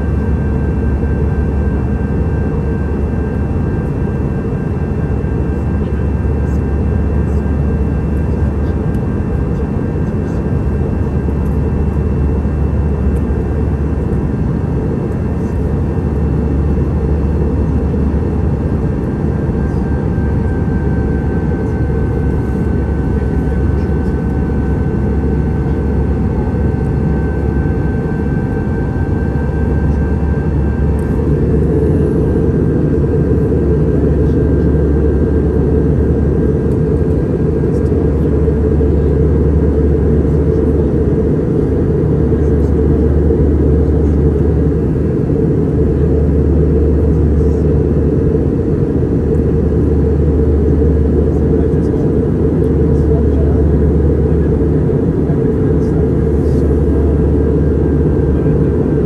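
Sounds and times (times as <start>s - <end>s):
jet engine drone in cabin: 0.0s - 59.0s.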